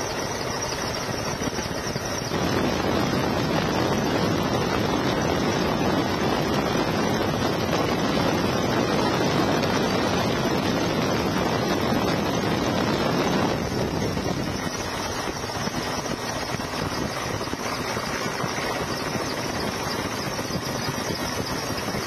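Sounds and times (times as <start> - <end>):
helicopter engine and rotor: 0.0 - 22.0
wind buffeting microphone: 0.1 - 22.0.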